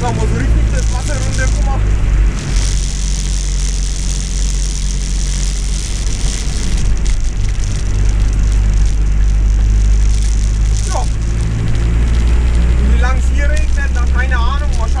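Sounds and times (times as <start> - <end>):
car engine running: 0.0 - 15.0
rain on car body: 0.0 - 15.0
tyres hissing on wet road: 0.0 - 15.0.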